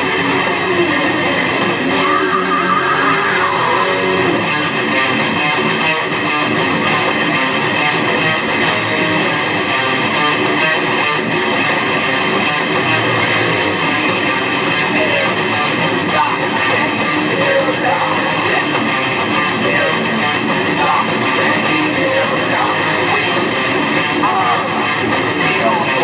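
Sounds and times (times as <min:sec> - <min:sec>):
distorted electric guitar riffs: 0:00.0 - 0:26.0.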